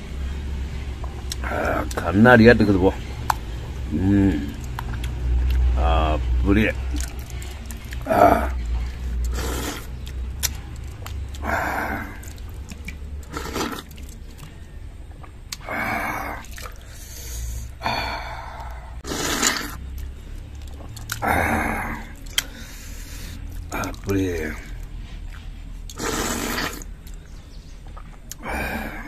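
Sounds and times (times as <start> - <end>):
wet slurping and chewing: 0.9 - 2.0, 2.6 - 5.8, 6.6 - 29.0.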